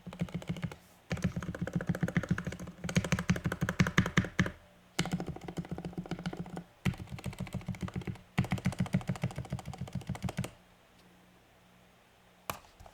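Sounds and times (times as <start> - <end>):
fast typing on mechanical keyboard: 0.0 - 10.6.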